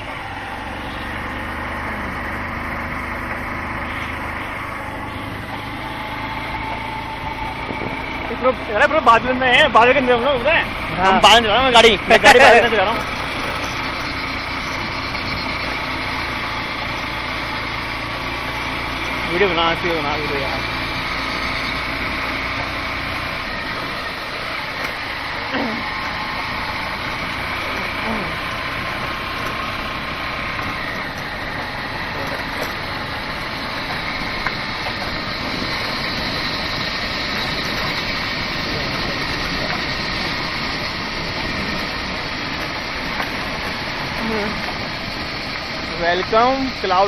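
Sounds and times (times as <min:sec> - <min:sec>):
motorcycle engine running: 0:00.0 - 0:47.0
rushing noise from riding: 0:00.0 - 0:47.0.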